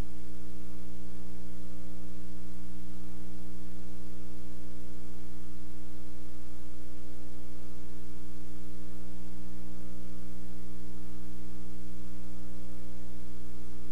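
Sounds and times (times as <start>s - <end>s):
electrical mains hum: 0.0s - 13.9s.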